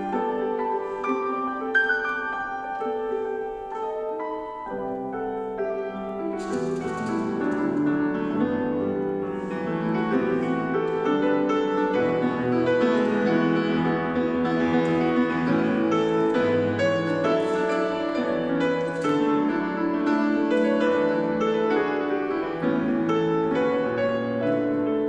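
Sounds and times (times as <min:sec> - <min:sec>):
solo grand piano: 0:00.0 - 0:25.0.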